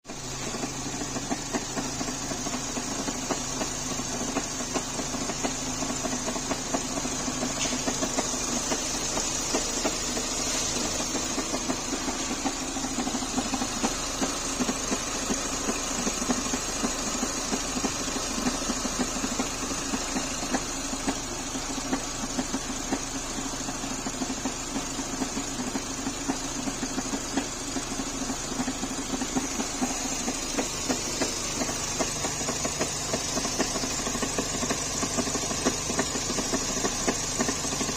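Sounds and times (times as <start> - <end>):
engine knocking: 0.0 - 37.9
petrol engine running: 0.2 - 37.9.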